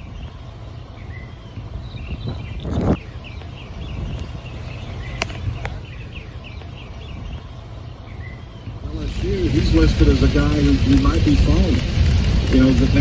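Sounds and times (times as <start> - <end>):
bird chirping: 0.0 - 13.0
steady low rumble: 0.0 - 13.0.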